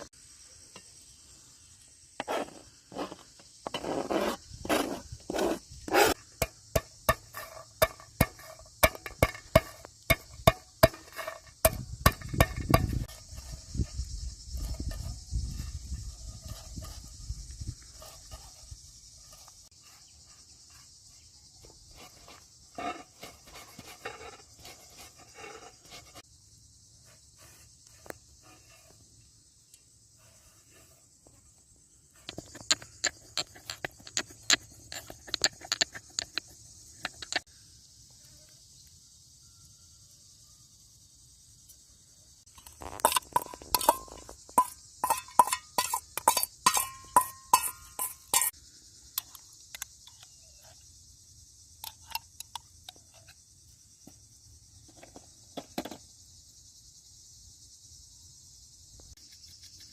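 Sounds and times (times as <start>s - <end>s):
crickets chirring: 0.0s - 59.9s.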